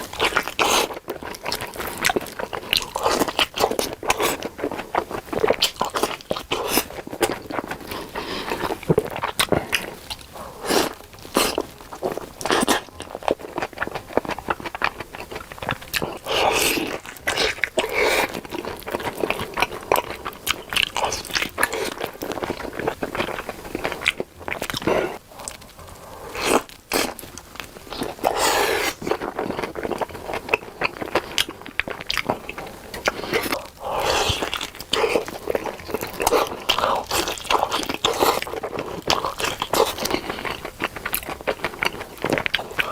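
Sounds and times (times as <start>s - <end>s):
chewing: 0.0s - 42.9s
crisp sausage bites: 0.0s - 42.9s.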